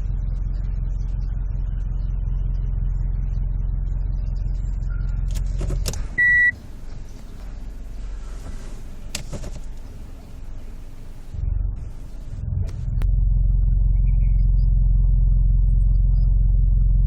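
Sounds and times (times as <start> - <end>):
car low rumble: 0.0 - 17.0.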